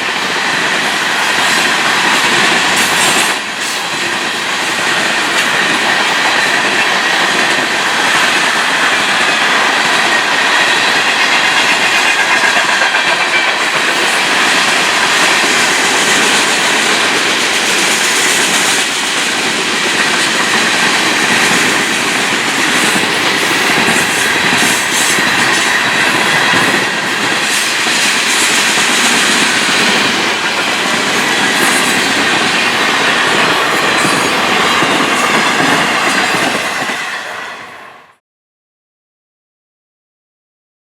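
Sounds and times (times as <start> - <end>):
steel wheels on rail: 0.0 - 38.2.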